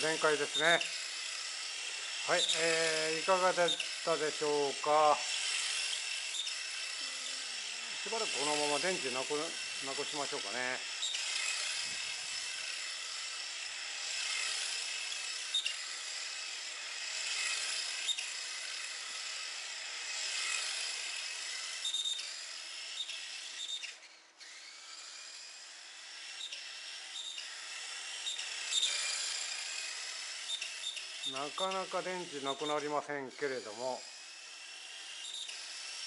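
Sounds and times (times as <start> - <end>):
toy car electric motor whine: 0.0 - 36.0.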